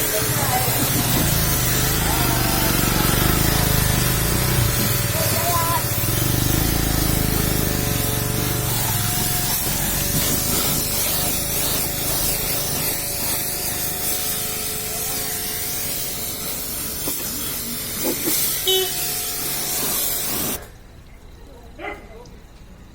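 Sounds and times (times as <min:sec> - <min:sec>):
pressure washer spraying water: 0:00.0 - 0:20.8.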